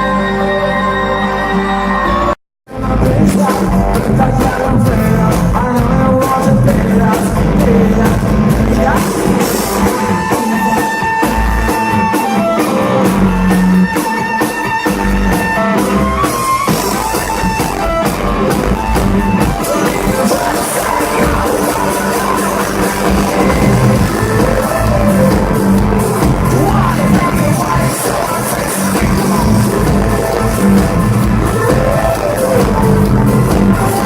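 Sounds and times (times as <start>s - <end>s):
person singing: 0.0s - 15.8s, 16.8s - 34.0s
live rock band playing: 0.0s - 34.0s.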